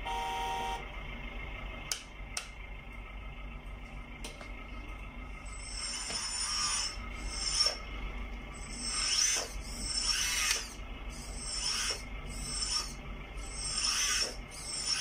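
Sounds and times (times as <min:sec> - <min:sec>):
hydraulic whine: 0:00.0 - 0:15.0.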